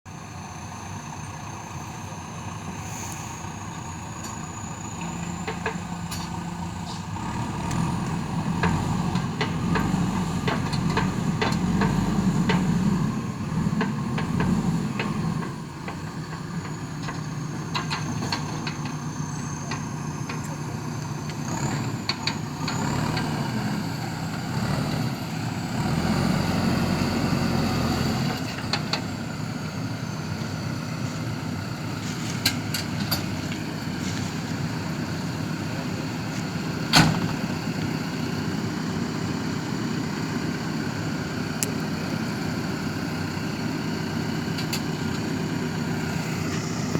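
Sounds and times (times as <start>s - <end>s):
backhoe diesel engine working: 0.1s - 46.9s.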